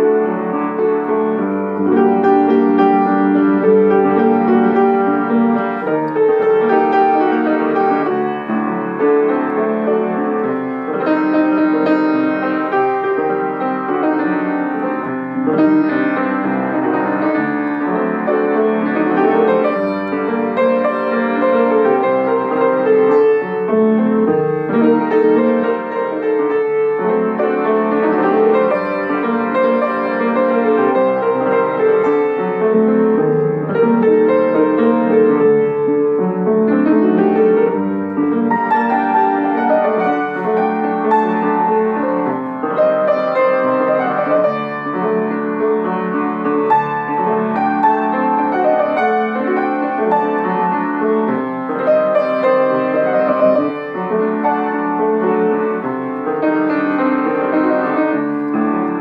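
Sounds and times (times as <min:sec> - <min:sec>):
upright piano folk melody: 0:00.0 - 0:59.0.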